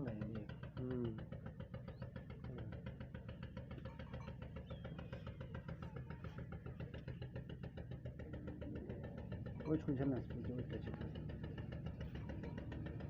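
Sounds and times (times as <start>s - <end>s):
engine idling with knocking: 0.0s - 13.0s.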